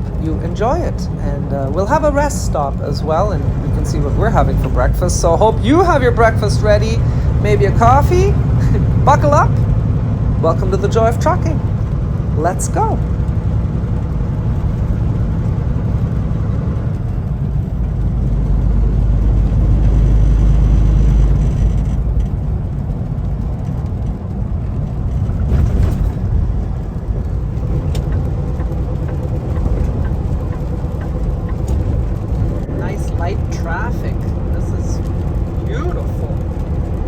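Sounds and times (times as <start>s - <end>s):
road noise: 0.0s - 37.0s
truck engine drone: 0.0s - 37.0s.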